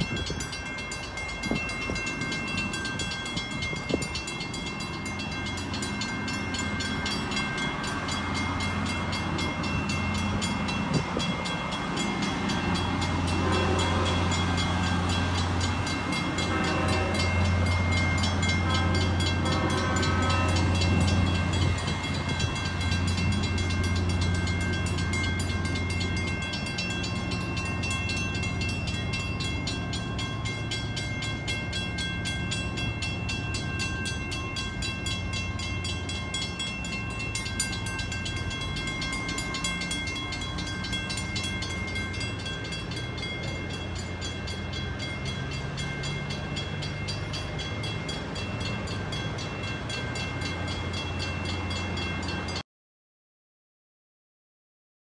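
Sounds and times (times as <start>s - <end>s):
crossing warning bell ringing: 0.0s - 52.6s
diesel locomotive engine rumble: 0.0s - 52.6s.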